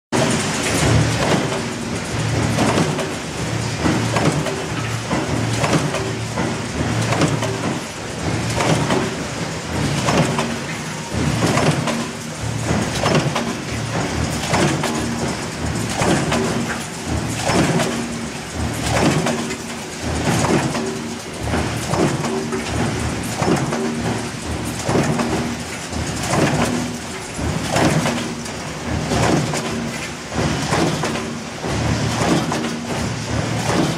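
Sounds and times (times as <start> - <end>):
drive and flywheel hum: 0.1 - 33.9
stamping press strokes clattering: 0.2 - 33.9.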